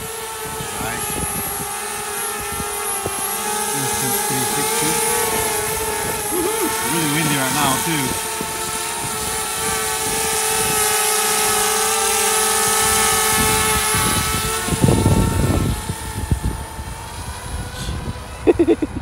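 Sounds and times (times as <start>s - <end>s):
drone propellers whining: 0.0s - 19.0s
wind rumble on microphone: 0.0s - 19.0s.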